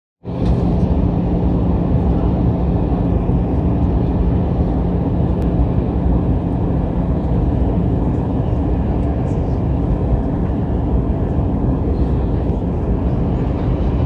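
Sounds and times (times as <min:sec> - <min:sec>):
aircraft engine and airflow rumble: 0:00.2 - 0:14.0
low hum: 0:00.2 - 0:14.0.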